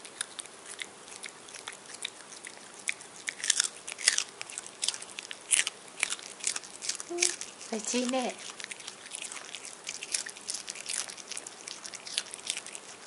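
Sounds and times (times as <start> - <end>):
puppy crunching a raw carrot: 0.0 - 13.0.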